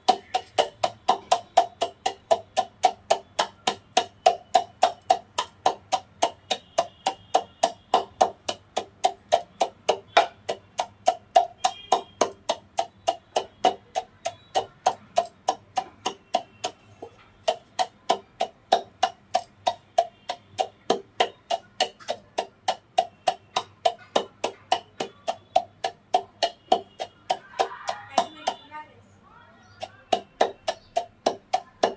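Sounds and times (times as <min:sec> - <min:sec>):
wooden pestle pounding in mortar: 0:00.0 - 0:28.7, 0:29.7 - 0:31.9.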